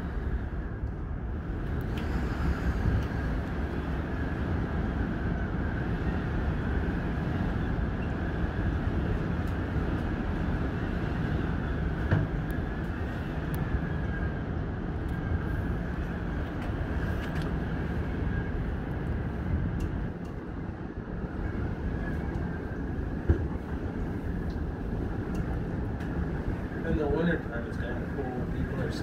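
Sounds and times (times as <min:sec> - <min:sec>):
cable car rumble and hum: 0:00.0 - 0:29.0.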